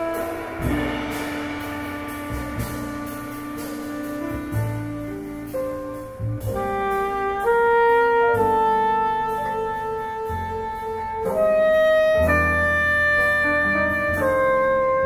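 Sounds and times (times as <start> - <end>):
alto saxophone: 0.0 - 15.0
cymbals: 0.0 - 15.0
jazz quartet playing: 0.0 - 15.0.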